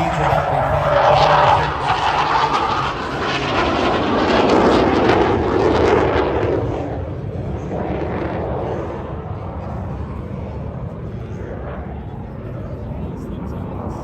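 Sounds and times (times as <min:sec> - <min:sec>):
jet flying past: 0:00.0 - 0:14.0.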